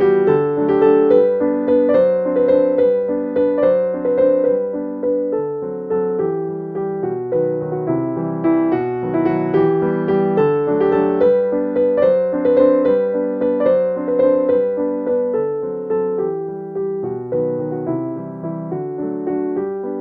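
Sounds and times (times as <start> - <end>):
gentle piano piece: 0.0 - 20.0.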